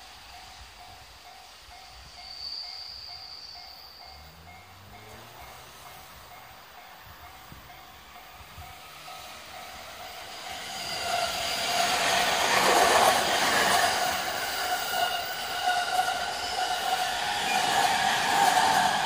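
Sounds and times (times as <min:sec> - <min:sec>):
electric train passing: 0:00.0 - 0:19.0
wheels on rails: 0:00.0 - 0:19.0.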